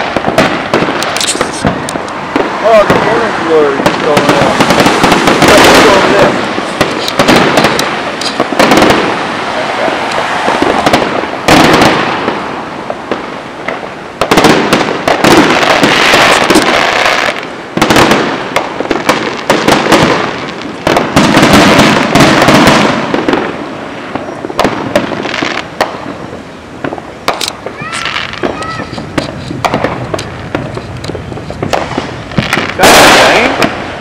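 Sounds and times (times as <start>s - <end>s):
fireworks bangs: 0.0s - 34.0s
fireworks crackling: 0.0s - 34.0s.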